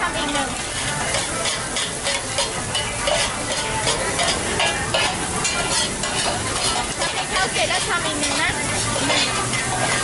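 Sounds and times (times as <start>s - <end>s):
rice sizzling on a pan: 0.0s - 10.0s
metal spatulas scraping a pan: 0.3s - 10.0s.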